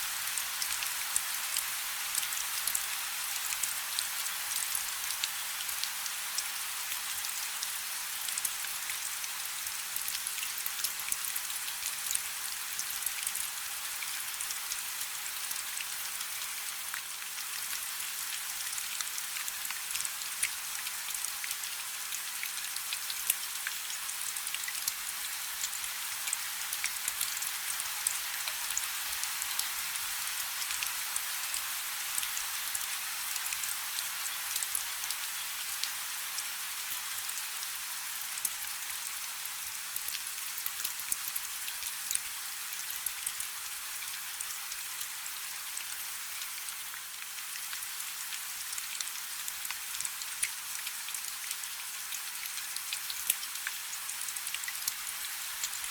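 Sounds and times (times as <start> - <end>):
light rain falling: 0.0 - 55.9.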